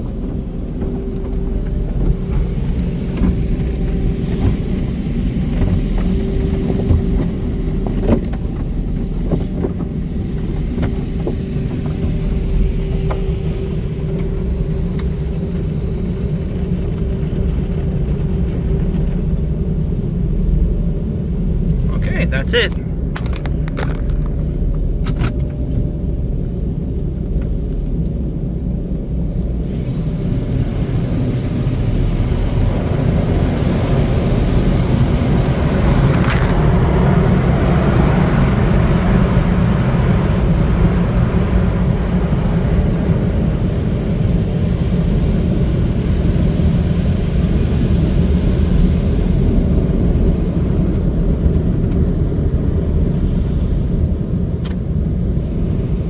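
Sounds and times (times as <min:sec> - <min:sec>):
car wash machinery rumble: 0:00.0 - 0:56.0.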